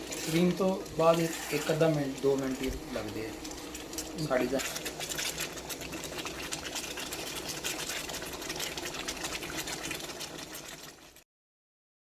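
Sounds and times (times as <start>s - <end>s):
chicken sizzling in a pan: 0.0s - 11.2s.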